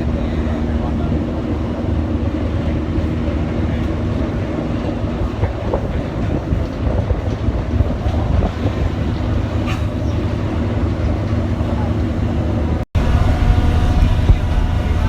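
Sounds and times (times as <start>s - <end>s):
constant hum: 0.0s - 15.0s
ship engine drone: 0.0s - 15.0s
wind buffeting microphone: 0.0s - 15.0s.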